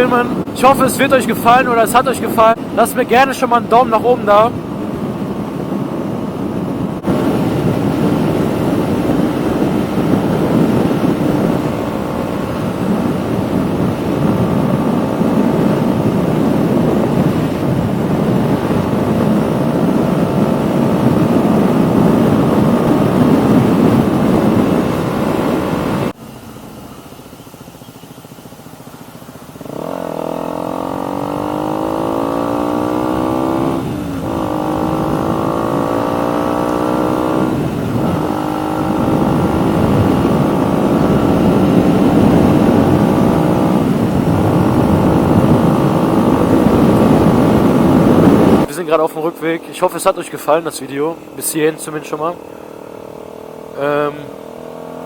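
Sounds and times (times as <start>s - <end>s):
wind noise: 0.0s - 26.2s, 29.6s - 54.6s
motorcycle engine accelerating: 0.0s - 55.0s.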